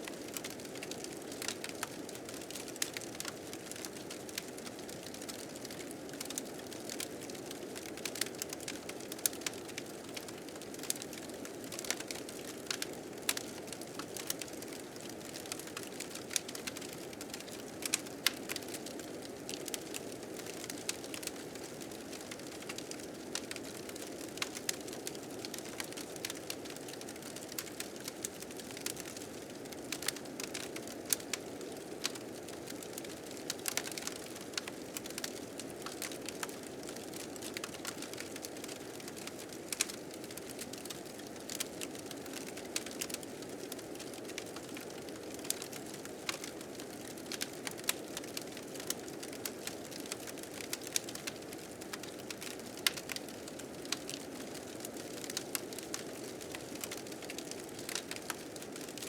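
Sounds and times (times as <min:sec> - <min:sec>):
fire crackling and popping: 0:00.1 - 0:59.0.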